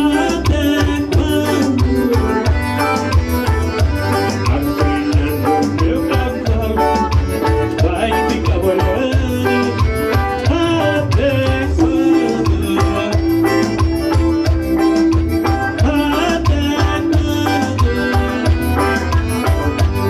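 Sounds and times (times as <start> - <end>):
band playing instrumental music: 0.0 - 20.0.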